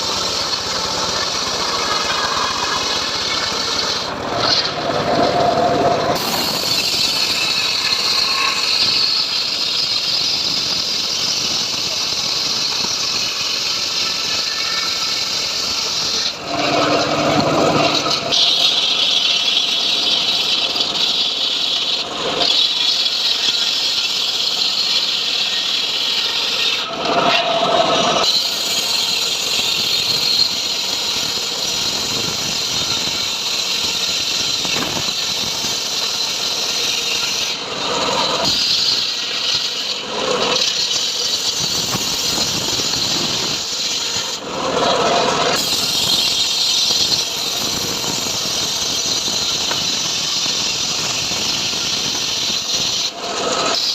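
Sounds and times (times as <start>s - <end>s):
band saw cutting log: 0.0s - 53.9s.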